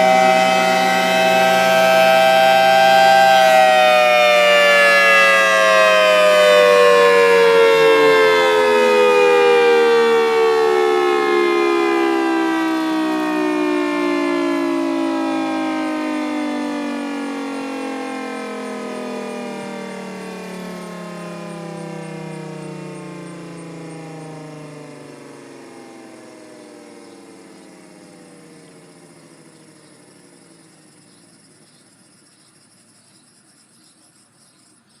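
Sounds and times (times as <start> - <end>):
warning siren winding down: 0.0 - 31.6.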